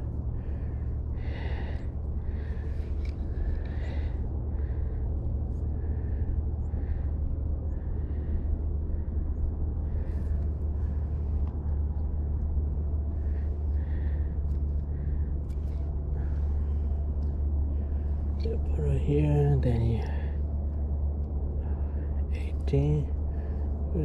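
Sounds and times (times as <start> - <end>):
faint soft sounds: 0.0 - 24.0
outdoor background rumble: 0.0 - 24.0.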